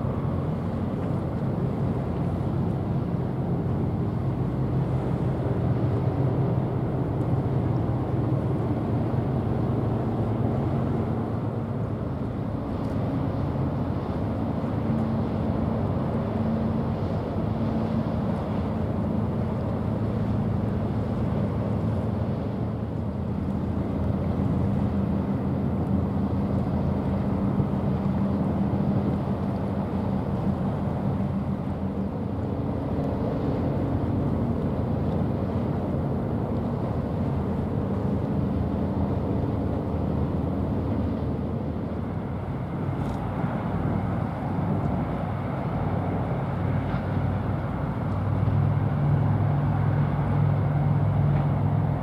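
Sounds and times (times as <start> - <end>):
ship engine drone: 0.0 - 52.0
water noise: 0.0 - 52.0
wind: 0.0 - 52.0.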